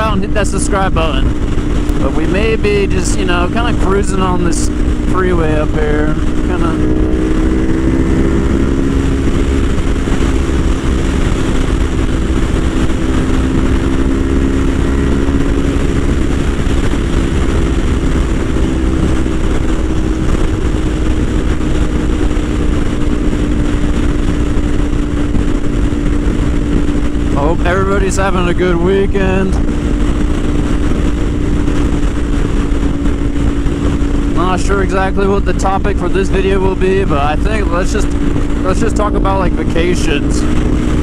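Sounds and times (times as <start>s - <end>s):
motorcycle engine cruising: 0.0s - 41.0s
wind rush on microphone: 0.0s - 41.0s.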